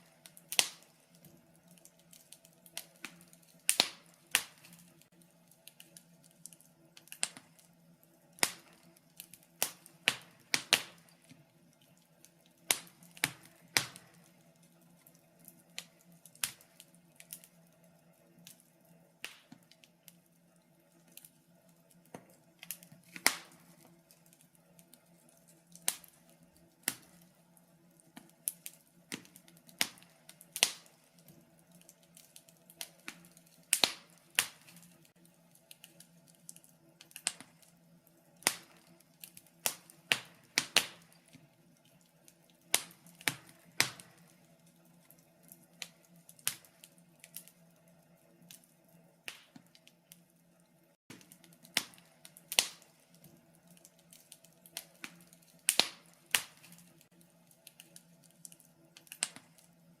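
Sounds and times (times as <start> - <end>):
wood fire crackling: 0.0 - 60.0.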